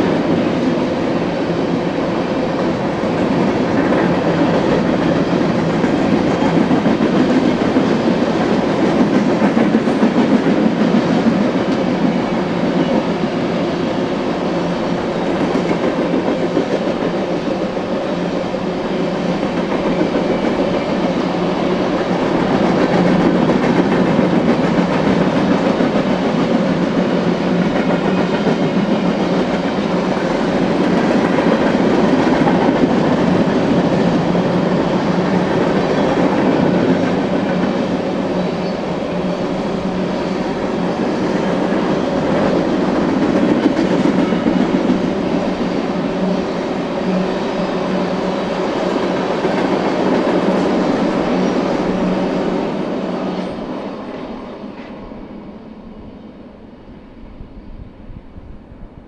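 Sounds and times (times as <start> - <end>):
train wheels clickety-clack: 0.0 - 55.3
freight train rumbling past: 0.0 - 59.0.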